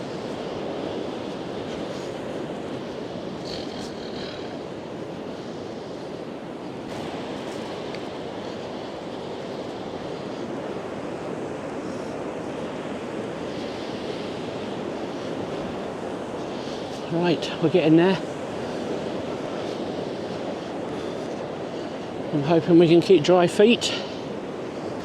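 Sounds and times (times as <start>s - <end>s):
surf washing up a beach: 0.0s - 25.0s.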